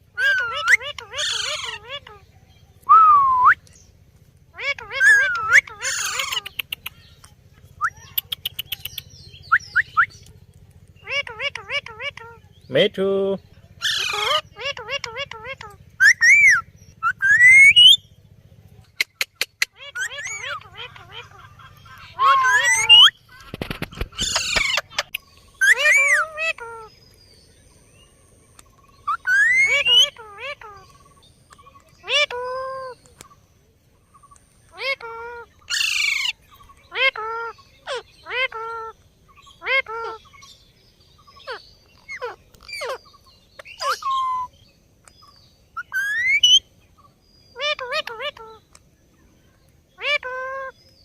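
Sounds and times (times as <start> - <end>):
parakeet calling: 0.0 - 2.4, 4.5 - 7.2, 7.8 - 18.1, 18.8 - 33.4, 34.1 - 48.8, 49.9 - 51.0.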